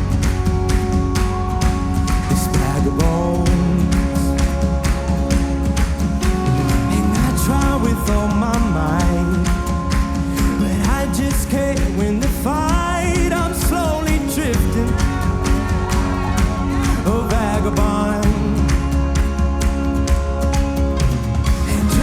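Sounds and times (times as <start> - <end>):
worship song with beat and bass: 0.0 - 22.0.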